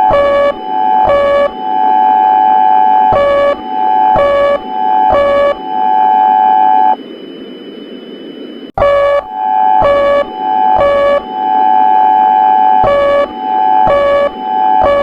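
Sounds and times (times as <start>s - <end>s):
electronic alarm tones and beeps: 0.0s - 7.1s, 8.4s - 15.0s.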